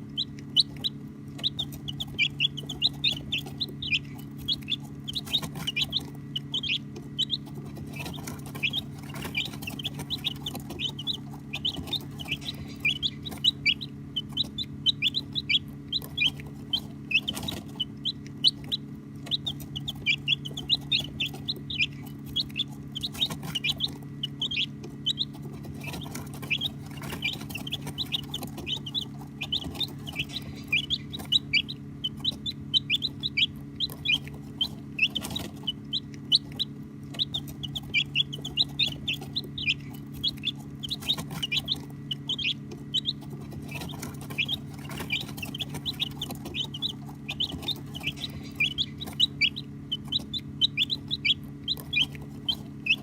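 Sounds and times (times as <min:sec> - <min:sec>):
baby chicks peeping: 0:00.0 - 0:53.0
steady low hum: 0:00.0 - 0:53.0.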